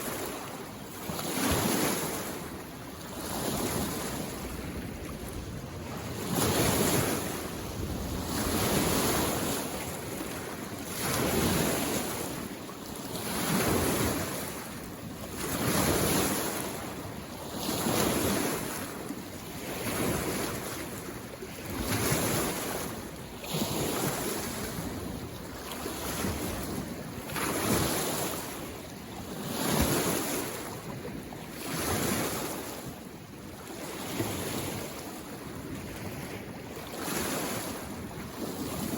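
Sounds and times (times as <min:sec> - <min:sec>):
lake waves washing on shore: 0:00.0 - 0:38.9.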